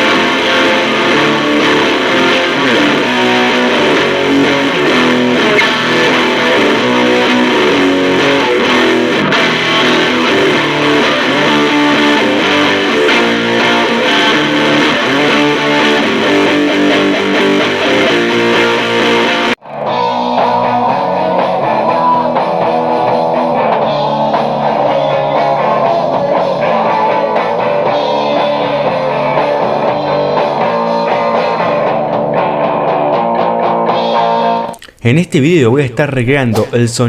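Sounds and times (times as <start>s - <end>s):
electric guitar playing rock: 0.0s - 34.8s
dull guitar passage: 0.0s - 36.8s.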